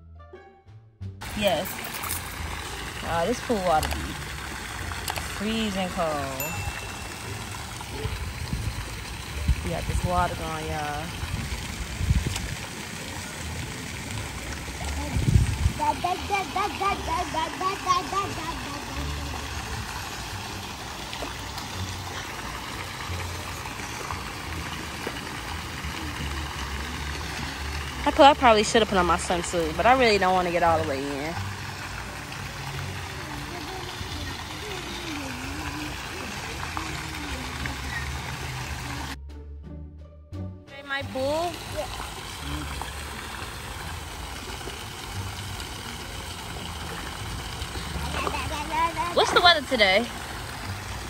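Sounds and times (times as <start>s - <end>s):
pool water splashing: 1.2s - 39.2s, 40.8s - 51.0s.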